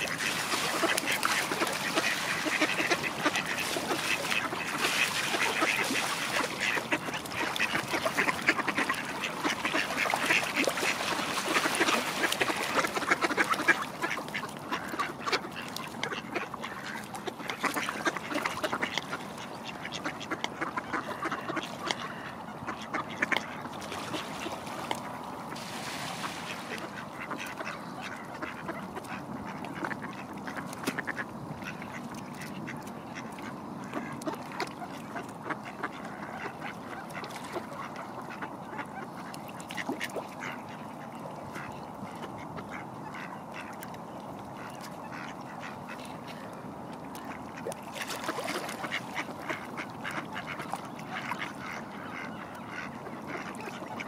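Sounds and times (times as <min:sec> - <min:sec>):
ducks quacking: 0:00.0 - 0:24.6, 0:26.2 - 0:43.8, 0:44.5 - 0:46.5, 0:47.1 - 0:54.0.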